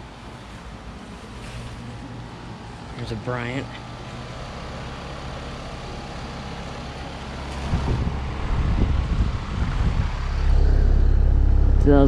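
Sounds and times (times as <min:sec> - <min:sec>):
air conditioner units humming: 0:00.0 - 0:12.0
low rumbling buffets: 0:00.8 - 0:12.0.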